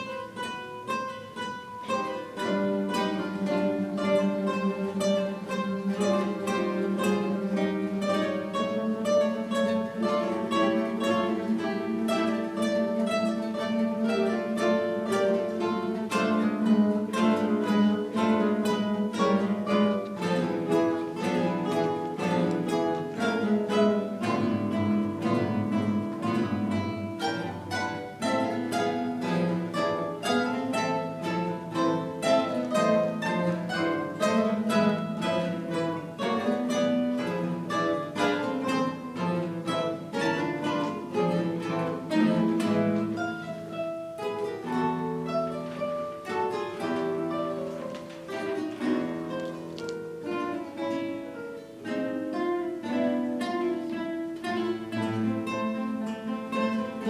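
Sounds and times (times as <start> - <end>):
guitar ensemble playing: 0.0 - 57.0.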